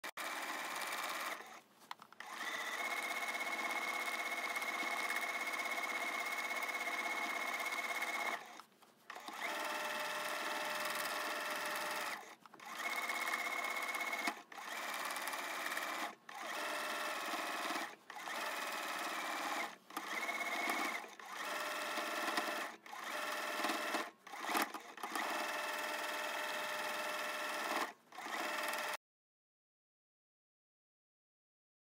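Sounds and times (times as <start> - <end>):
sewing machine running fast: 0.1 - 1.6, 2.2 - 8.5, 9.2 - 29.0.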